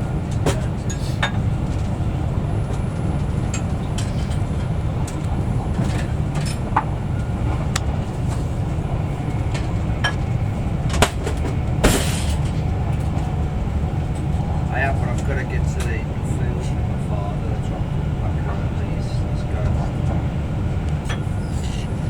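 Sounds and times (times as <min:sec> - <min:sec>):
train interior low rumble: 0:00.0 - 0:22.0.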